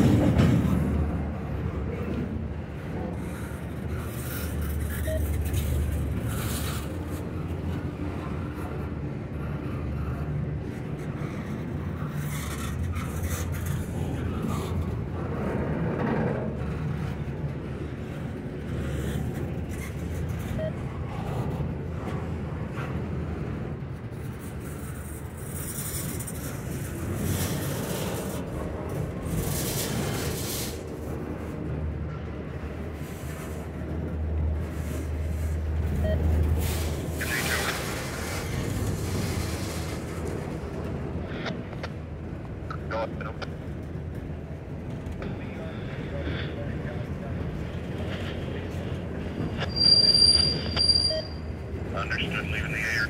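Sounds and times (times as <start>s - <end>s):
clacks and scrapes: 0.0s - 42.8s, 43.4s - 51.2s
train wheels rumbling on rails: 0.0s - 52.0s.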